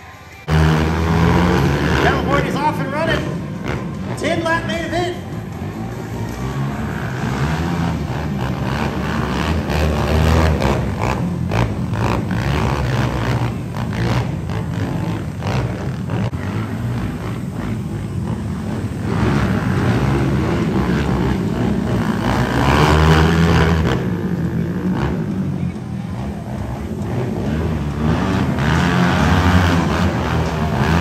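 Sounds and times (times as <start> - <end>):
racing engines: 0.0 - 31.0.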